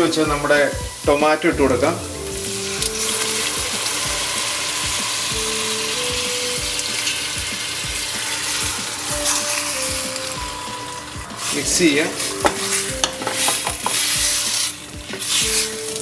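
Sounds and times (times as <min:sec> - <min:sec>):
onion sizzling in butter: 0:00.0 - 0:16.0
soft background music: 0:00.0 - 0:16.0.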